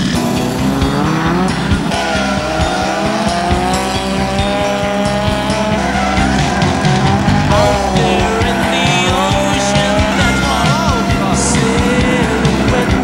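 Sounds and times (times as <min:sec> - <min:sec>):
car engine revving: 0:00.0 - 0:13.0
music playing: 0:00.0 - 0:13.0
tyres squealing: 0:00.0 - 0:13.0.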